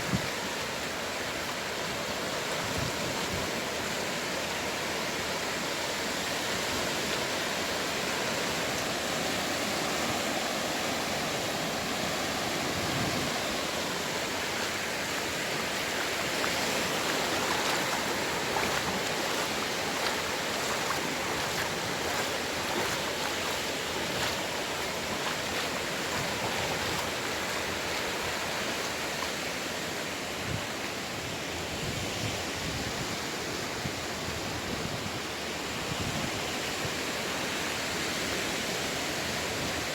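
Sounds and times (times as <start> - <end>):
sea waves washing in: 0.0 - 34.4.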